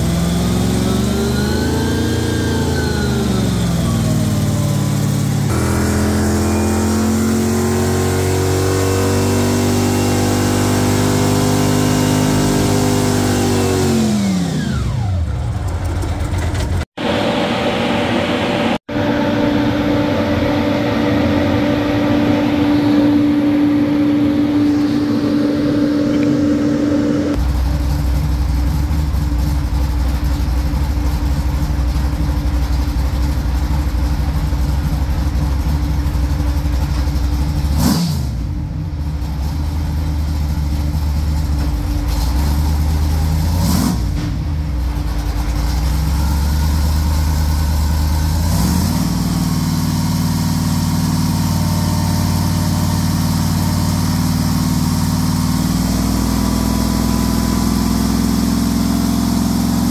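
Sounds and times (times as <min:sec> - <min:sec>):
car engine revving under load: 0:00.0 - 0:59.9.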